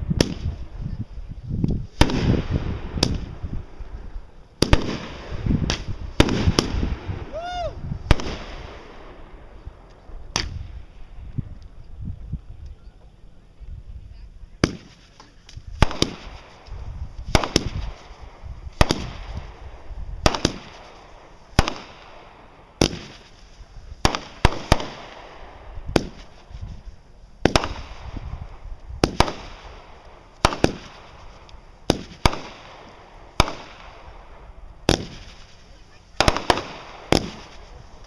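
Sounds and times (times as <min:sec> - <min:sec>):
fireworks banging: 0:00.0 - 0:11.5, 0:14.6 - 0:38.0.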